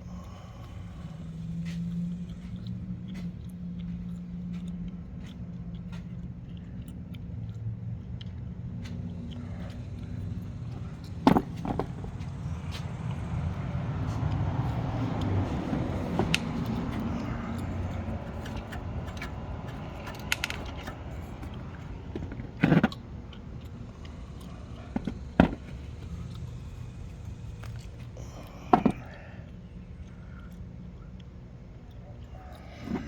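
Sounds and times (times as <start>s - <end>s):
car engine drone with whine: 0.0s - 33.0s.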